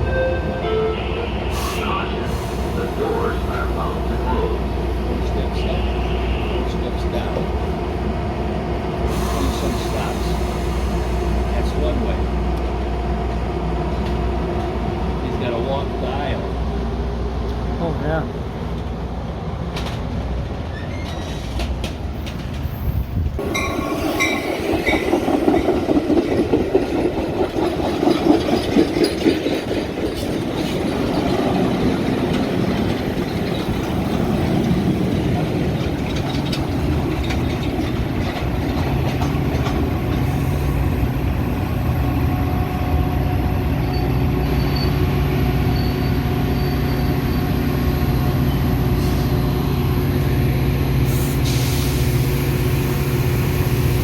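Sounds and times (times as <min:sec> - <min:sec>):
train wheels clattering on track: 0:02.2 - 0:16.5, 0:19.6 - 0:50.4.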